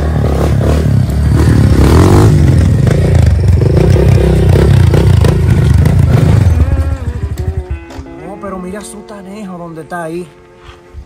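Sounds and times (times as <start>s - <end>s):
dirt bike engine revving: 0.0s - 9.5s.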